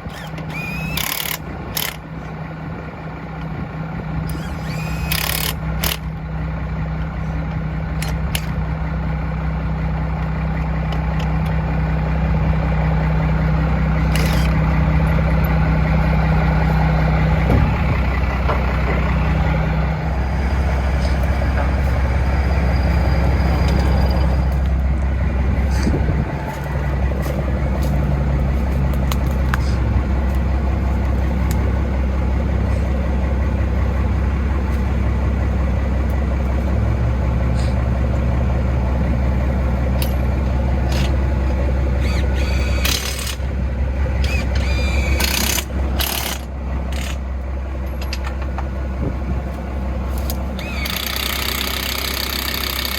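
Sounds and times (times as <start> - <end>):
vehicle engine idling: 0.0 - 52.9.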